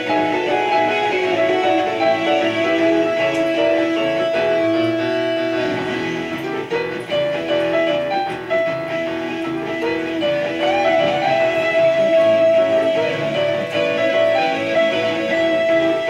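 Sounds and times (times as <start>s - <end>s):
boogie piano: 0.0s - 16.0s
guitar: 0.0s - 16.0s.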